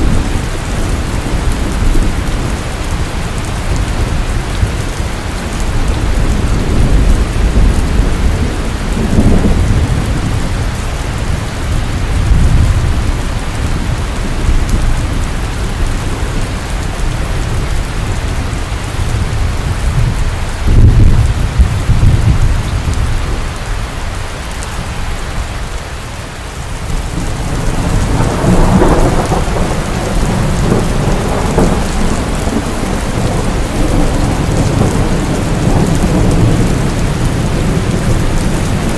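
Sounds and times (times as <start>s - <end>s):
thunder rumbling: 0.0s - 25.6s, 26.7s - 38.9s
heavy rain: 0.0s - 38.9s.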